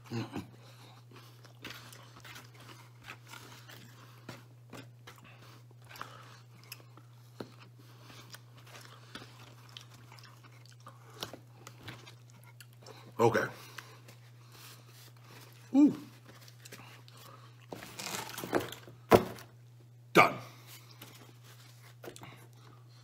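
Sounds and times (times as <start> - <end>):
man chewing pizza: 0.0 - 19.0, 20.5 - 23.0.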